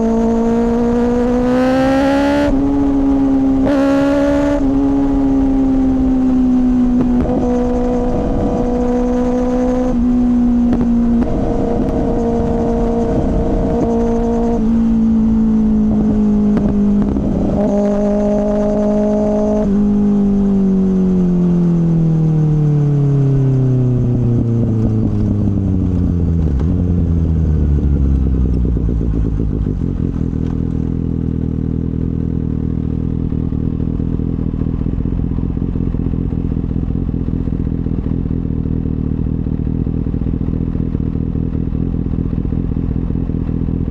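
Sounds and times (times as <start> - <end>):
motorcycle engine cruising and idling: 0.0 - 43.9.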